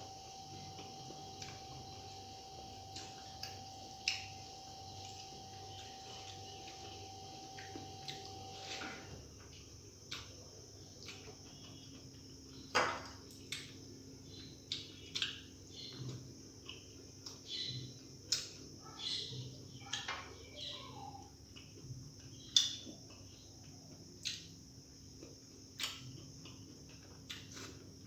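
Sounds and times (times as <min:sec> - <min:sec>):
person chewing food: 0:00.2 - 0:18.7, 0:21.4 - 0:24.5, 0:25.1 - 0:28.0.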